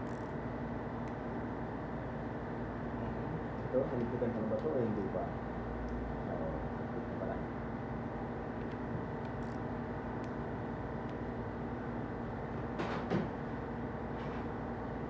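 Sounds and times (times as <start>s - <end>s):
workshop hum: 0.0s - 15.0s.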